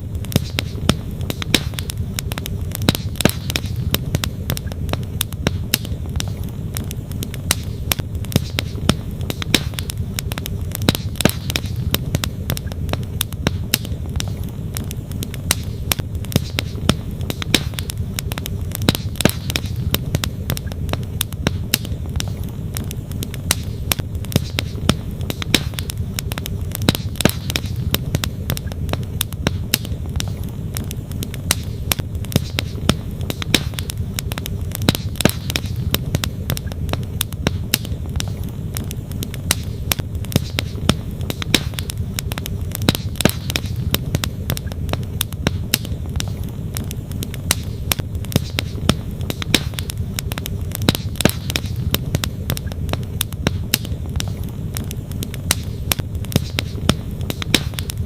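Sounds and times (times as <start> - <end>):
campfire wood crackling and popping: 0.0 - 58.0.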